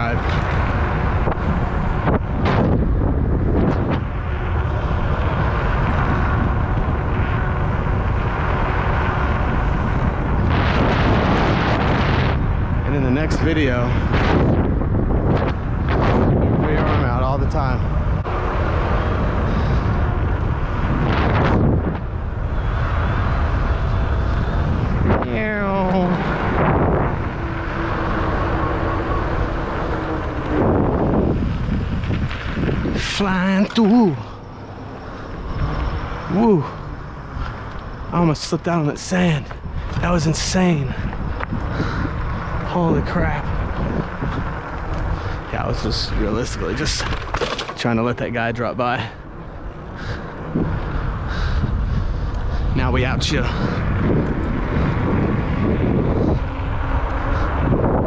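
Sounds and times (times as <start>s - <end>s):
bike tyre road noise rumble: 0.0s - 58.0s
wind rush over microphone: 0.0s - 58.0s.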